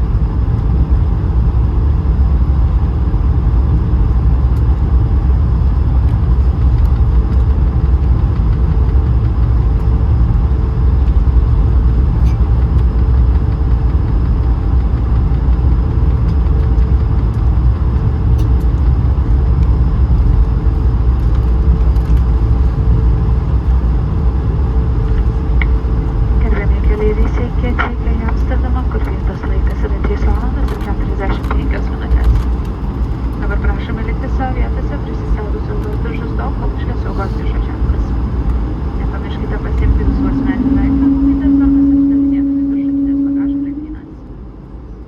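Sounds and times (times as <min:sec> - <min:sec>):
jet engine and airflow rumble: 0:00.0 - 0:45.0
steady cabin hum: 0:00.0 - 0:45.0.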